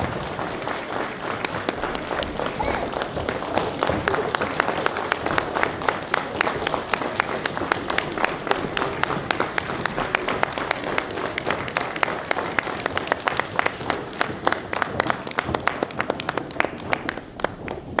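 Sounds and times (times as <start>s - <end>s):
crowd clapping: 0.0s - 18.0s.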